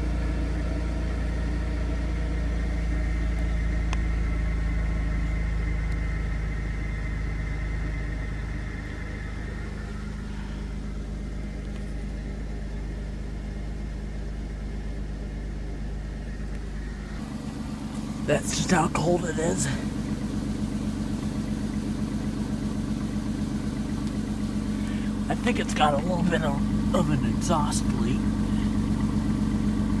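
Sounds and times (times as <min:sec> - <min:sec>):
engine idling rough: 0:00.0 - 0:30.0.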